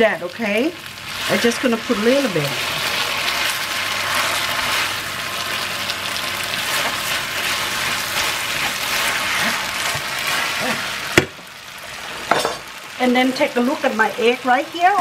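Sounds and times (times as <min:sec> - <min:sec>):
noodles and beef sizzling in pan: 0:00.0 - 0:15.0.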